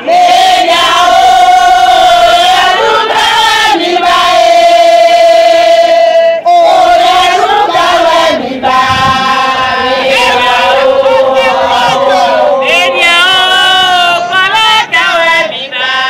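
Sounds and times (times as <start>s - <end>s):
women chanting in unison: 0.0s - 16.0s.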